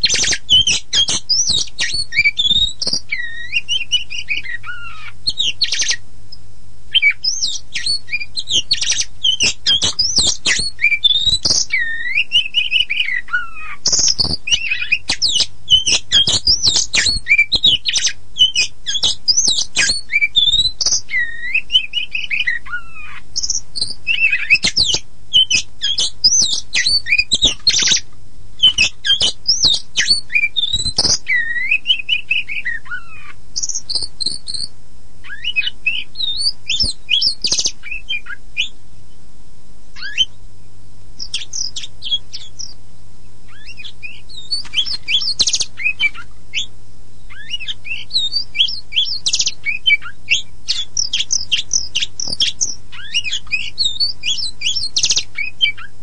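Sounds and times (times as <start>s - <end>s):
songbird singing whistled notes: 0.0s - 39.2s, 40.0s - 40.4s, 41.2s - 42.8s, 43.4s - 56.0s
faint low hum: 0.0s - 56.0s.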